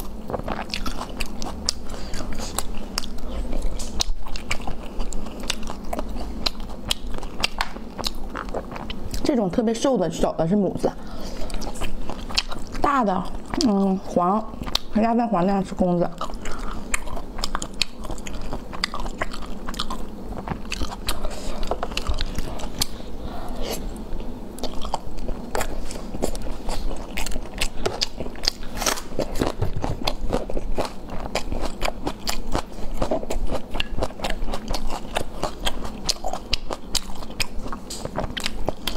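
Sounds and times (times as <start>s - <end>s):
biting and chewing food: 0.0s - 9.4s, 11.1s - 15.0s, 15.9s - 38.9s.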